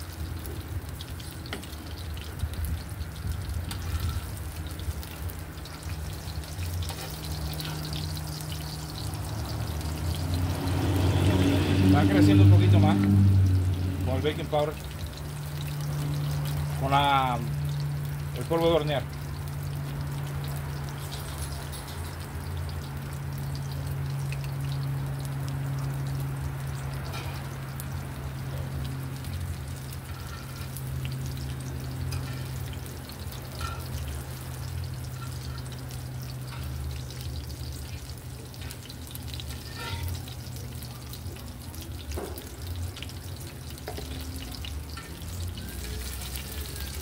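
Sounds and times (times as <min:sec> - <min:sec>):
fritters sizzling in oil: 0:00.0 - 0:47.0.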